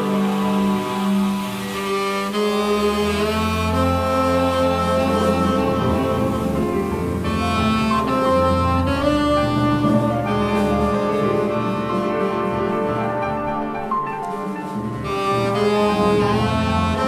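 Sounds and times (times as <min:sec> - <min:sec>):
bass trumpet: 0:00.0 - 0:17.0
double bass: 0:00.0 - 0:17.0
piano: 0:00.0 - 0:17.0
saxophone: 0:00.0 - 0:17.0.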